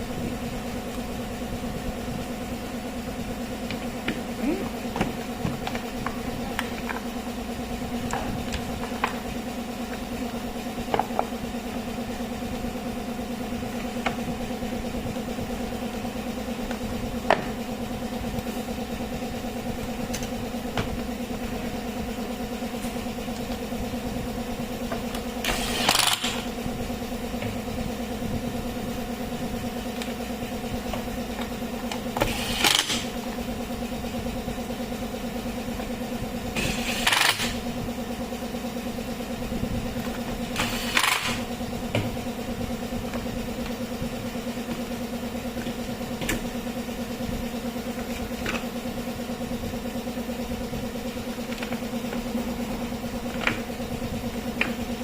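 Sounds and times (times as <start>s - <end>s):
hedge trimmer running: 0.0s - 55.0s.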